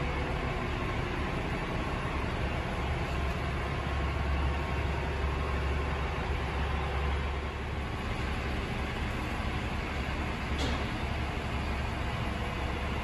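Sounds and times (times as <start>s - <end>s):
heavy trucks rumbling: 0.0s - 13.0s.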